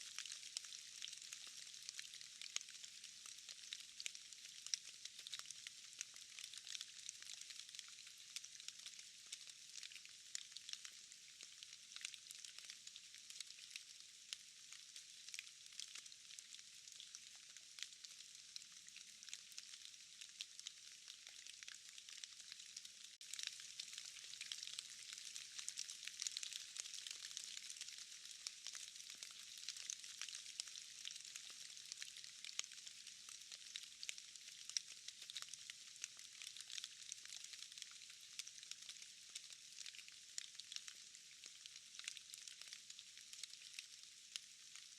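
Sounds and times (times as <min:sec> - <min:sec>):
rain hissing in forest: 0:00.0 - 0:44.9.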